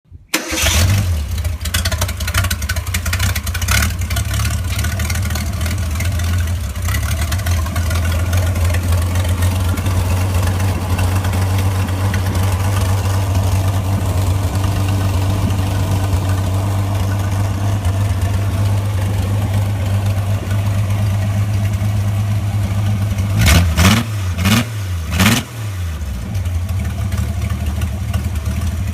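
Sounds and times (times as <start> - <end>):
car engine idling and revving: 0.4 - 28.9.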